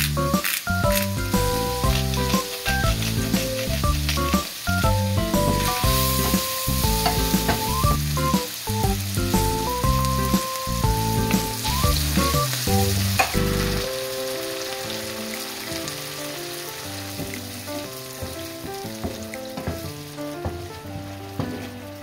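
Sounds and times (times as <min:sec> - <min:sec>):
food sizzling in a frying pan: 0:00.0 - 0:21.7
background music: 0:00.0 - 0:22.0.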